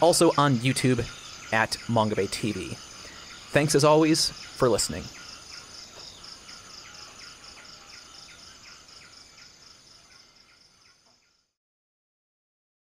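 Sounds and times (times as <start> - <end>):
insect high trill: 0.0 - 11.4
short insect chirps: 0.0 - 11.6.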